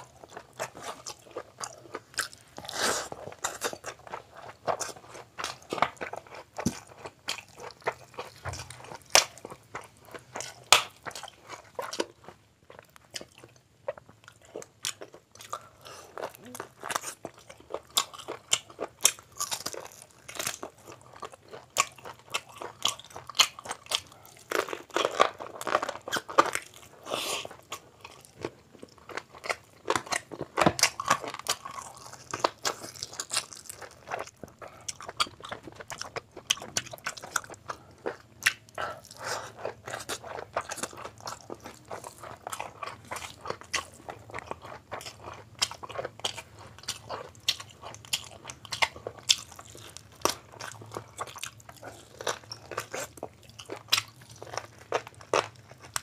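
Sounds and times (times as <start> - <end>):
man chewing and crunching food: 0.0 - 56.0.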